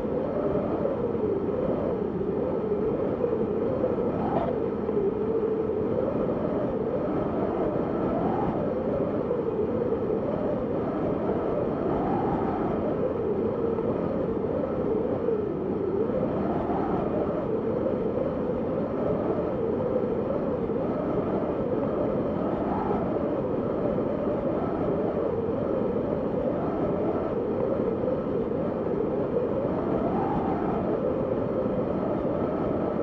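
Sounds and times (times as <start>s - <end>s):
howling storm wind: 0.0s - 33.0s.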